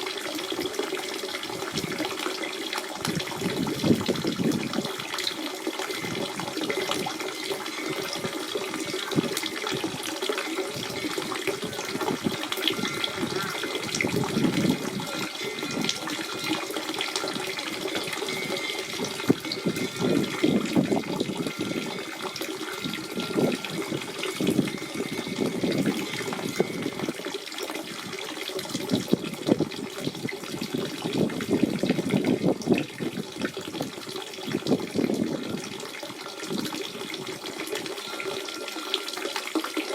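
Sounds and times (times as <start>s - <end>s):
spring water gurgling: 0.0s - 39.9s.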